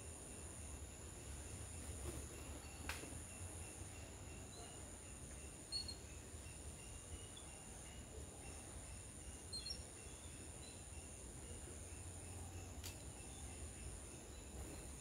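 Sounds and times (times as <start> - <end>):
high-pitched insect drone: 2.6 - 15.0.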